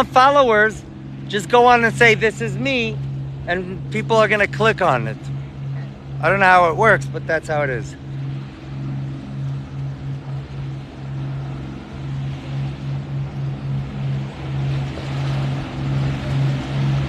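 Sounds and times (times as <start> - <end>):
boat engine droning: 0.0 - 17.0
water noise: 0.0 - 17.0.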